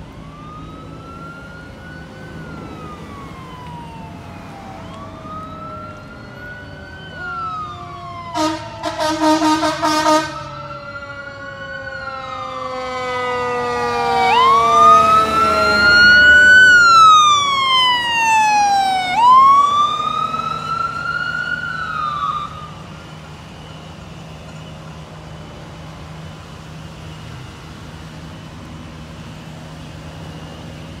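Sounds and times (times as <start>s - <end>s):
fire engine siren wailing: 0.0s - 31.0s
road and engine noise: 0.0s - 31.0s.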